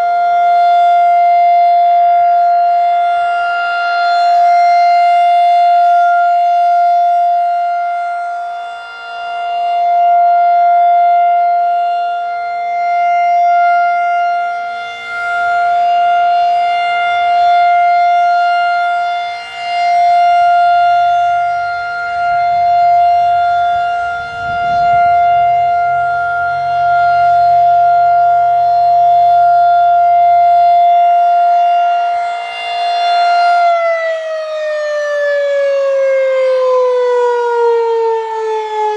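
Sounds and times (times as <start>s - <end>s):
outdoor warning siren: 0.0s - 38.9s.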